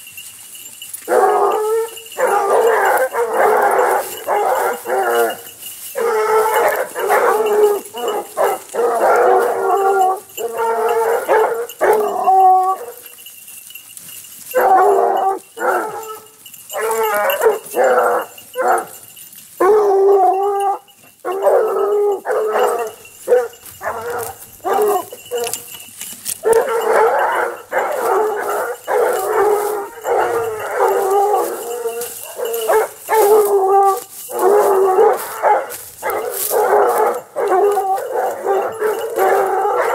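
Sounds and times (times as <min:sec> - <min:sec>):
hounds baying and howling: 0:00.0 - 0:39.9.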